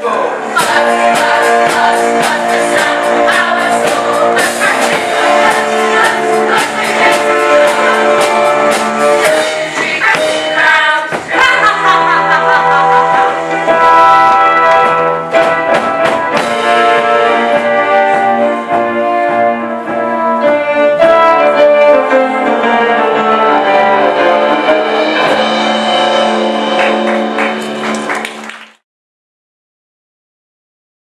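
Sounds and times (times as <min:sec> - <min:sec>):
instrumental show music: 0:00.0 - 0:28.8
percussion strikes: 0:00.5 - 0:28.8.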